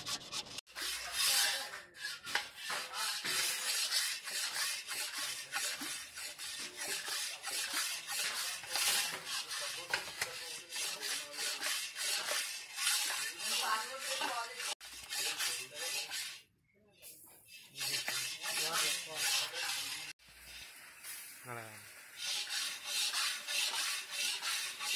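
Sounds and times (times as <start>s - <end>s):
metal spoon scraping metal pan: 0.0s - 21.1s, 22.1s - 24.9s.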